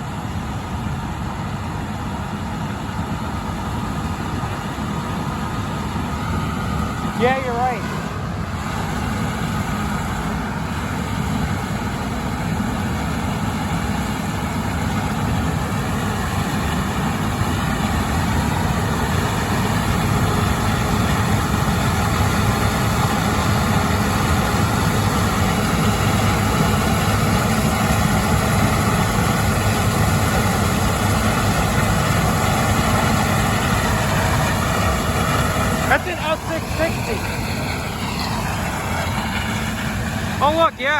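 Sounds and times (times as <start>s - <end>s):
farm machinery engine drone: 0.0s - 40.9s.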